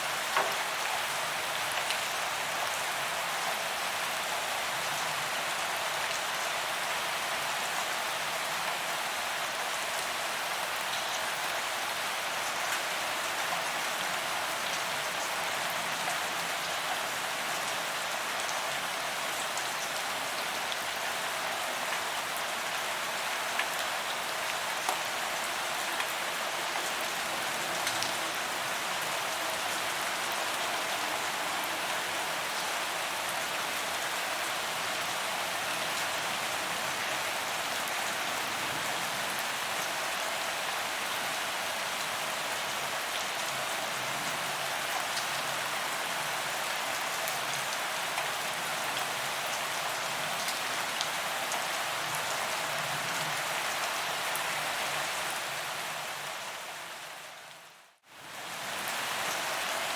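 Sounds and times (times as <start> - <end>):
rain on pavement: 0.0 - 59.9.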